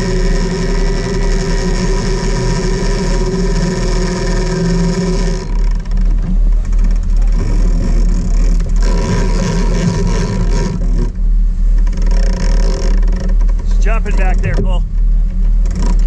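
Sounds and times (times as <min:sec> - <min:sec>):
boat engines running: 0:00.0 - 0:16.0
wake water noise: 0:00.0 - 0:16.0.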